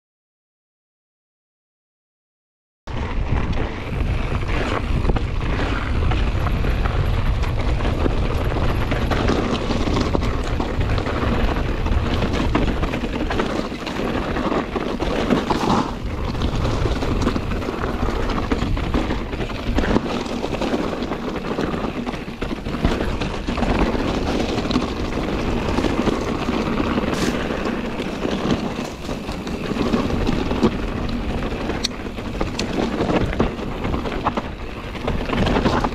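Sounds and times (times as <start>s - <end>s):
bike knocking and rattling: 2.9s - 35.9s
bike tyres on dirt trail: 2.9s - 35.9s
wind on microphone: 2.9s - 35.9s.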